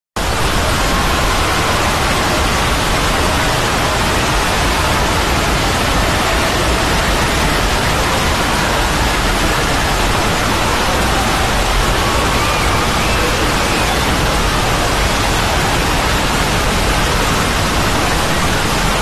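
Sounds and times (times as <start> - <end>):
dense wash of overlapping soundtracks: 0.2 - 19.0.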